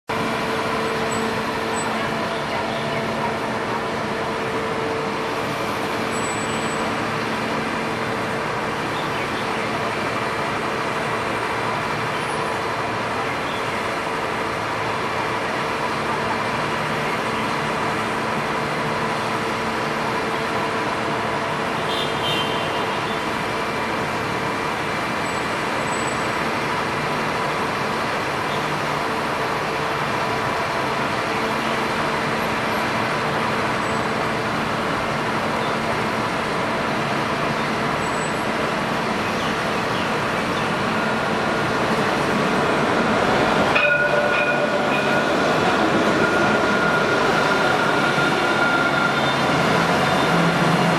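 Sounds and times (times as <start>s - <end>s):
road traffic noise: 0.0s - 50.9s.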